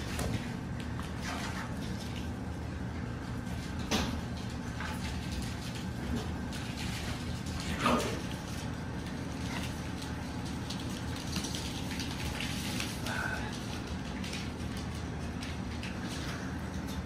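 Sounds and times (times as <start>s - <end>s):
puppy paws scampering on floor: 0.0s - 17.0s
steady low hum: 0.0s - 17.0s.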